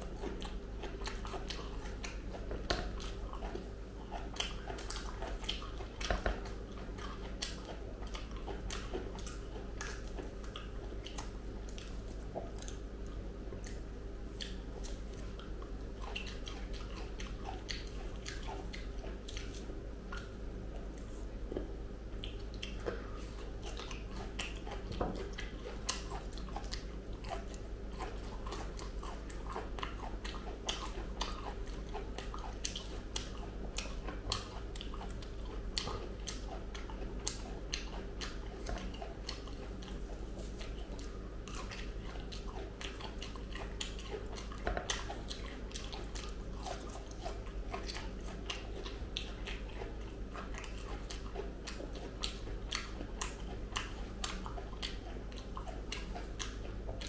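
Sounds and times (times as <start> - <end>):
wet chewing mouth sounds: 0.0 - 57.0.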